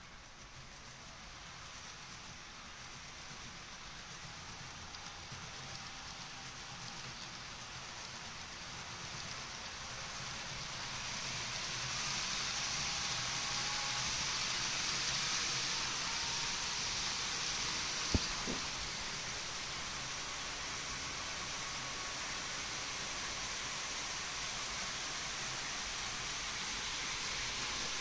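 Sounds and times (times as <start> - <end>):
model train rushing hiss: 0.0 - 28.0.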